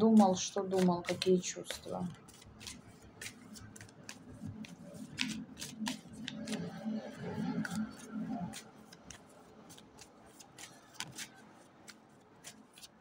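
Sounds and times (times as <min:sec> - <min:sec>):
cards slapping and flicking: 0:00.2 - 0:06.8, 0:07.6 - 0:13.0.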